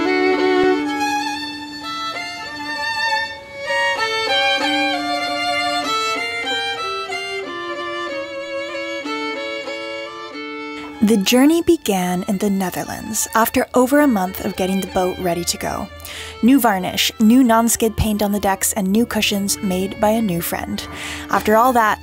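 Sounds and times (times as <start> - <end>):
fiddle playing a melody: 0.0 - 22.0.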